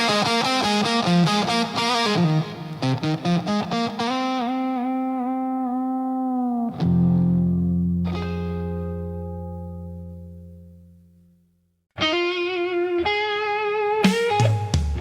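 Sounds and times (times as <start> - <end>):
electric guitar solo: 0.0 - 11.0, 11.9 - 15.0.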